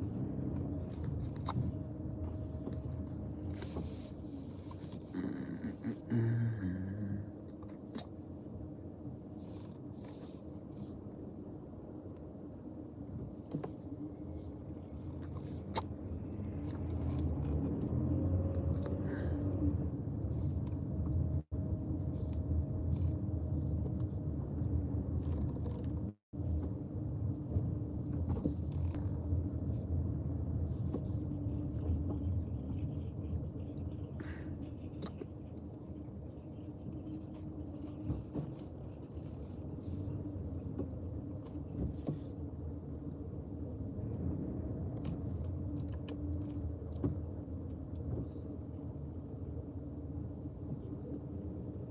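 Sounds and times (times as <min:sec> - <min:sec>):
faint hum: 0:00.0 - 0:51.9
road and engine rumble: 0:00.0 - 0:51.9.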